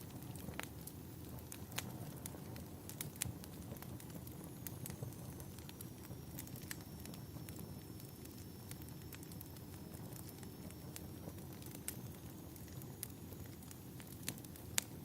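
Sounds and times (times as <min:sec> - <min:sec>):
rumble of flames: 0:00.0 - 0:15.0
wood fire crackling: 0:00.0 - 0:15.0.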